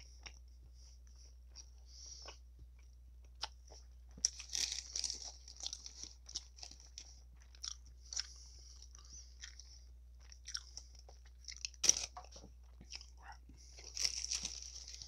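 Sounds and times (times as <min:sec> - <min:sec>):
person chewing with wet clicks: 0:00.0 - 0:00.5, 0:01.5 - 0:04.5, 0:05.2 - 0:14.6
steady low hum: 0:00.0 - 0:15.0.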